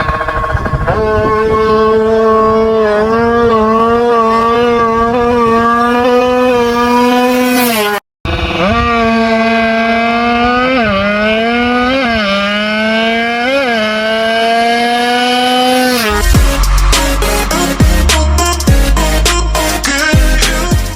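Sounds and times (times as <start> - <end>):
motorcycle engine revving high: 0.0 - 20.9.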